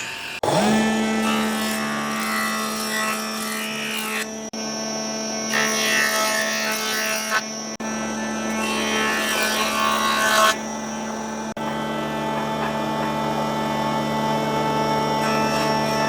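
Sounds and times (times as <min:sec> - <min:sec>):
power tool motor running: 0:00.0 - 0:16.0
tool cutting wood: 0:00.0 - 0:16.0.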